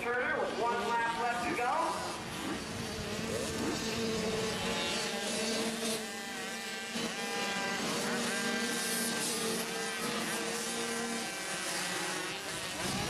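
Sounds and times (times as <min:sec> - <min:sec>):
dirt bike engines whining: 0:00.0 - 0:13.0.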